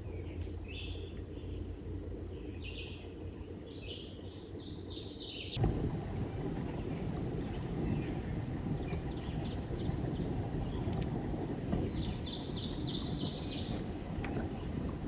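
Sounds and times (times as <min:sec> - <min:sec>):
songbird singing: 0:00.0 - 0:05.6, 0:06.6 - 0:15.0.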